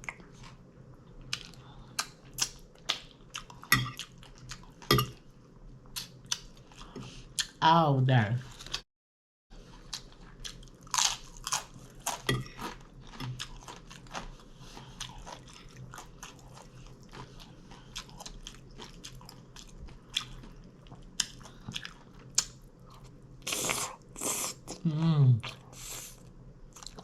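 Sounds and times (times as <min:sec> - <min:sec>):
person chewing crunchy food: 0:01.2 - 0:05.2, 0:05.9 - 0:07.6, 0:09.6 - 0:24.8, 0:25.4 - 0:27.0.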